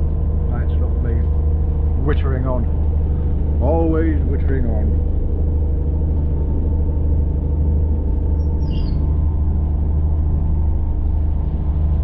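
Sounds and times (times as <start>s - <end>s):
moving train rumble and hum: 0.0s - 12.0s.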